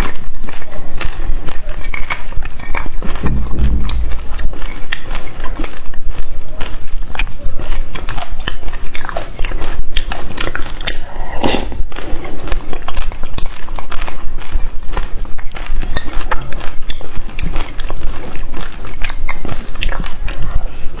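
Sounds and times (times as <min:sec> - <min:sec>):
wet clicky chewing: 0:00.0 - 0:21.0.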